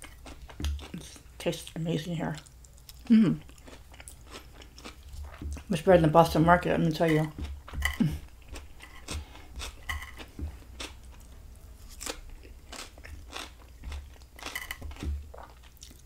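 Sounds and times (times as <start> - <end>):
chewing crisp vegetables: 0.0 - 16.0.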